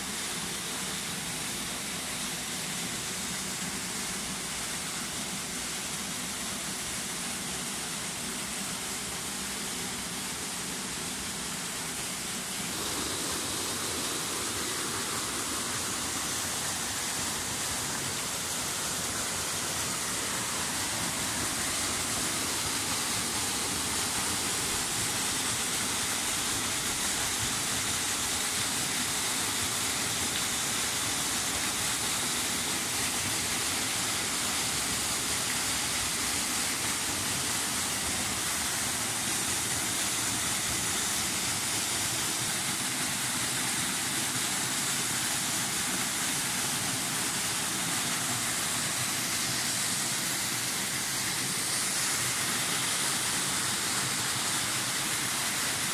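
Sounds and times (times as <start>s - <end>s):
waterfall splashing into pool: 0.0s - 55.9s.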